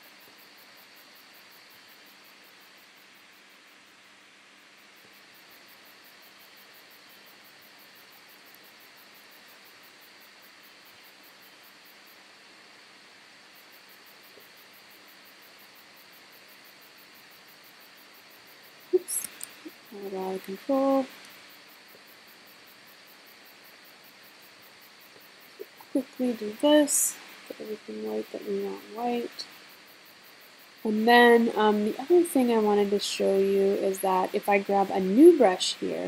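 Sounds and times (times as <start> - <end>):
room hiss: 0.0 - 36.0.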